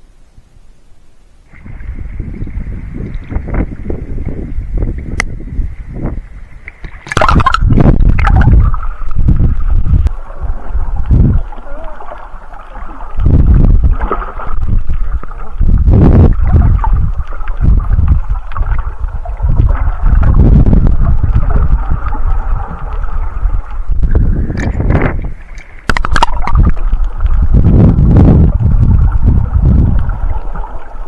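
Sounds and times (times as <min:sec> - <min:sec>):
muffled underwater water rushing: 0:00.0 - 0:31.0.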